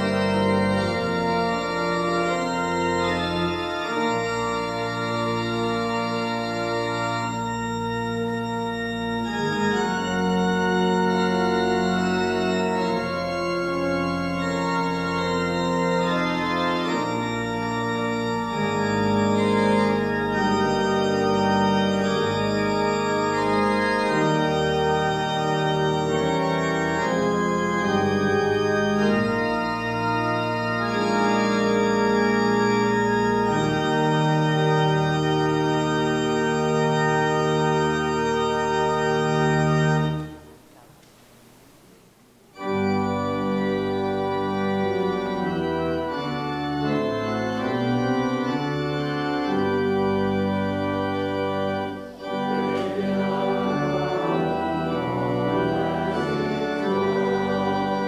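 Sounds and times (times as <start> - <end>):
church organ chords: 0.0 - 40.7, 42.4 - 58.0.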